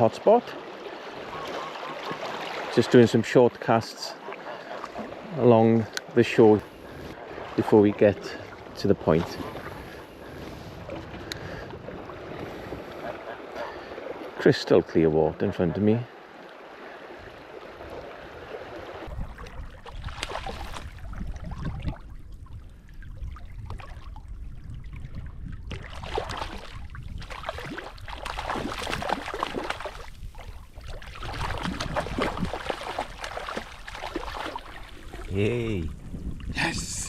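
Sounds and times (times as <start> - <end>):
water splashing and gurgling: 0.0 - 14.4, 16.1 - 37.0.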